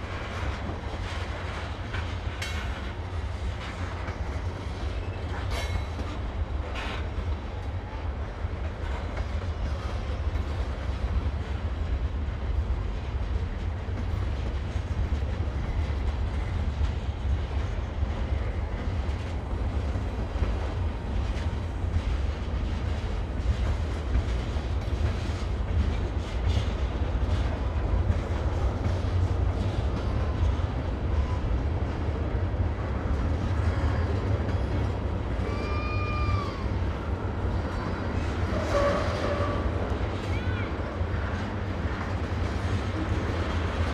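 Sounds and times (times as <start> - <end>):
freight train rumbling: 0.0 - 43.9
wheels clattering on rails: 0.0 - 43.9.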